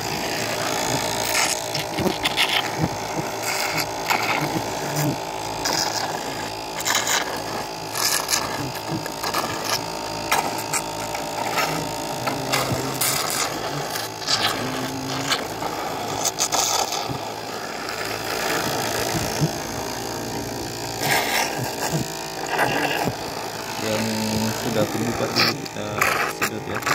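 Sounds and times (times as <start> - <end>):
small electric motor humming: 0.0 - 26.9.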